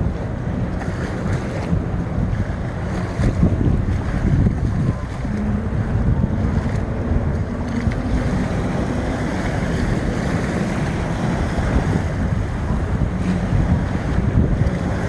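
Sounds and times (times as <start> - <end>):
faint boat engine drone: 0.0 - 15.0
surf washing: 0.0 - 15.0
wind buffeting microphone: 0.0 - 15.0.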